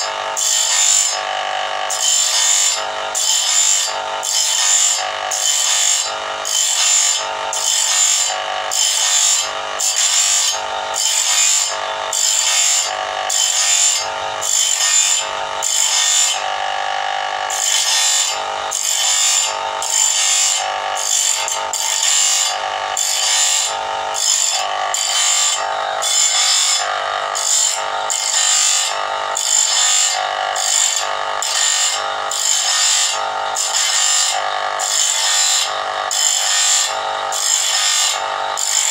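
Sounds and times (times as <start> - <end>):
grinding wheel sharpening saw blade: 0.0 - 38.9.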